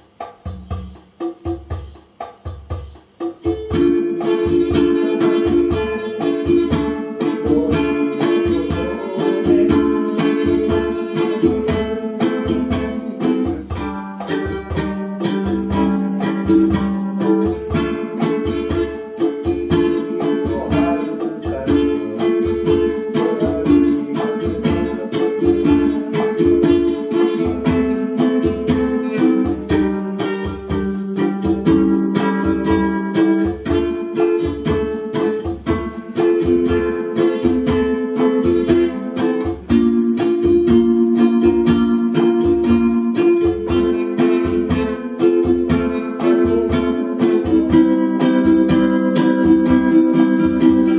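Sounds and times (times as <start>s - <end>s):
steady low beat: 0.0s - 50.9s
ukulele melody: 0.0s - 50.9s.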